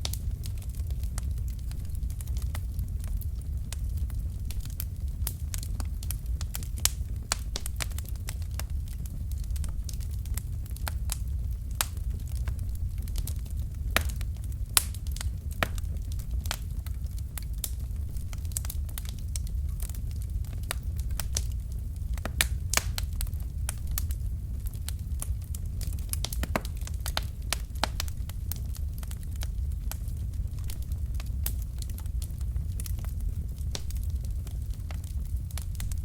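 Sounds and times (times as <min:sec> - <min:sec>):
low rumble of flames: 0:00.0 - 0:36.0
wood crackling and popping: 0:00.0 - 0:36.0.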